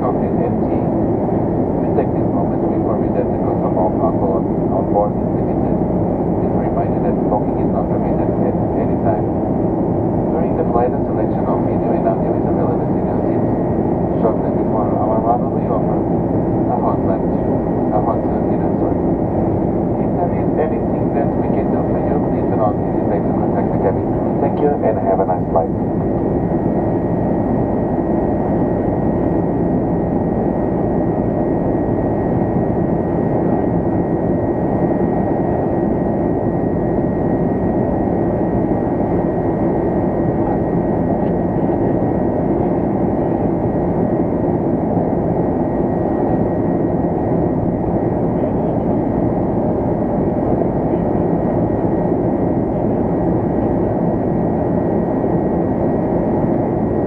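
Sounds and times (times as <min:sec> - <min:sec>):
airplane cabin engine drone: 0:00.0 - 0:57.0
thin steady whine: 0:00.0 - 0:57.0.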